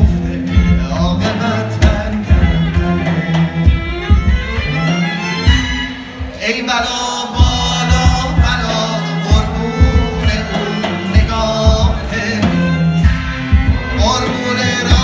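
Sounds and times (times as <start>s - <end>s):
person singing: 0.0s - 5.5s, 6.2s - 15.0s
drum strokes: 0.0s - 15.0s.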